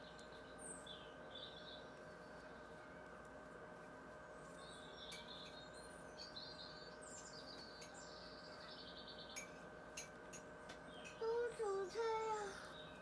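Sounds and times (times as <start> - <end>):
small birds chirping and trilling: 0.0 - 2.5, 4.2 - 13.0
faint steady hum: 0.0 - 13.0.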